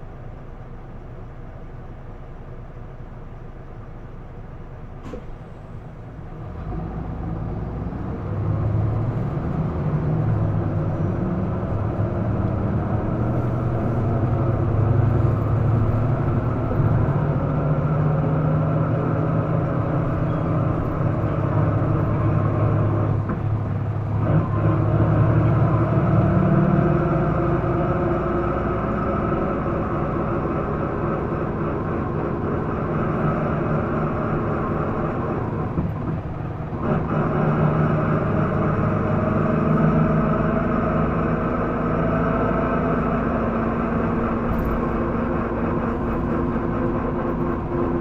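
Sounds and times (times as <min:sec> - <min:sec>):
bus diesel engine drone: 0:00.0 - 0:48.0.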